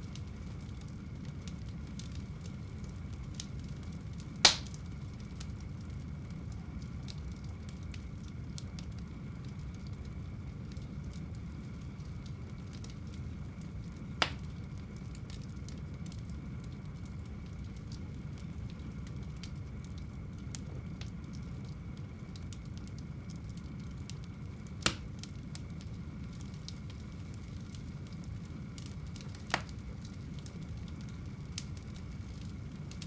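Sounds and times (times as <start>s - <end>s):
fire crackling: 0.0s - 33.0s
fire popping: 0.0s - 33.0s
fireplace fire rumbling: 0.0s - 33.0s.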